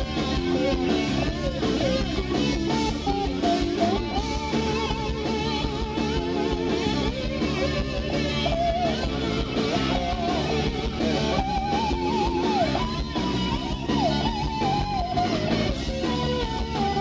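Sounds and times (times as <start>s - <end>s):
electric guitar lead: 0.0s - 17.0s
live rock band playing: 0.0s - 17.0s.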